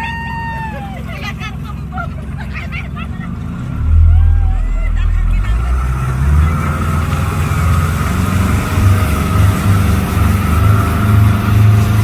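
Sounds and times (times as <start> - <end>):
outboard engine droning: 0.0 - 12.0.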